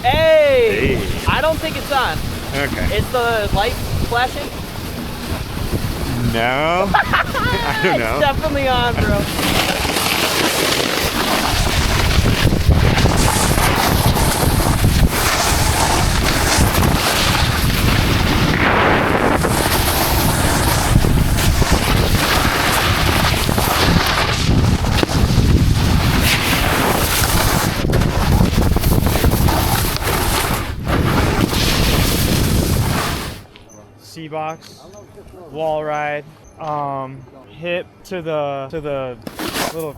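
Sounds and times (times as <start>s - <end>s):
wind rushing over microphone: 0.0s - 33.5s
snowboard edges scraping snow: 0.5s - 33.5s, 39.2s - 39.9s.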